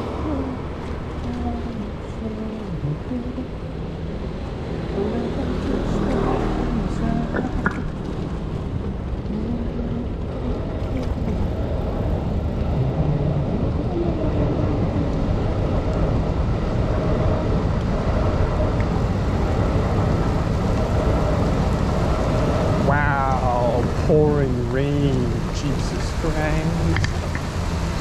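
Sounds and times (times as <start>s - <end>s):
low rumbling wind noise: 0.0s - 28.0s.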